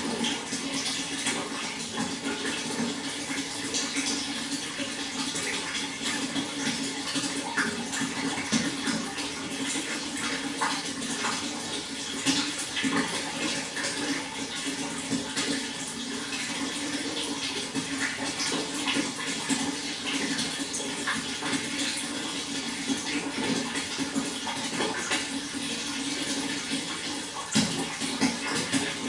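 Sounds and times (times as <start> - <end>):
flowing water rushing: 0.0 - 29.0.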